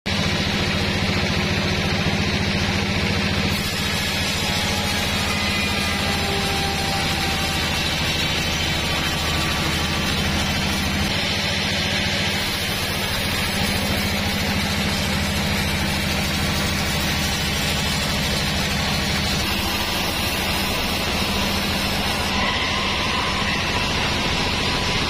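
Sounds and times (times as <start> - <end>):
band saw drone: 0.1 - 25.0
saw blade cutting hiss: 3.3 - 24.9.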